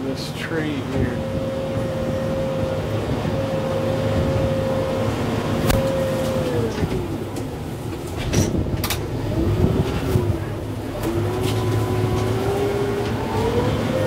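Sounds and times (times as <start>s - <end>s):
steady whine: 0.0s - 14.0s
tractor diesel engine under load: 0.0s - 14.0s.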